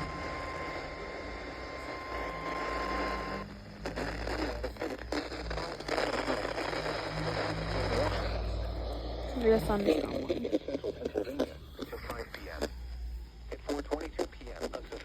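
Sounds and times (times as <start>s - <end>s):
low hum: 0.0s - 14.2s
crackly static: 0.0s - 15.0s.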